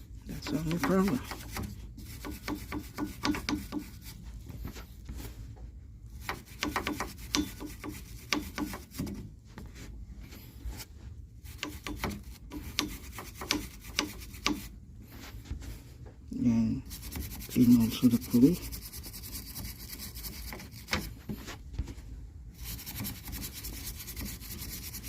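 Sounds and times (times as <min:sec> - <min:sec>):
wire brush scraping a belt: 0:00.3 - 0:05.1, 0:06.1 - 0:09.3, 0:10.3 - 0:15.6, 0:16.8 - 0:21.7, 0:22.5 - 0:25.0.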